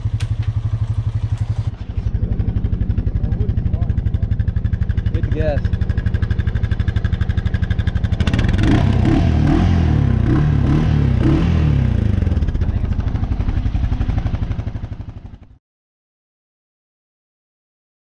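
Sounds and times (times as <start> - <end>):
atv engine revving: 0.0 - 15.5.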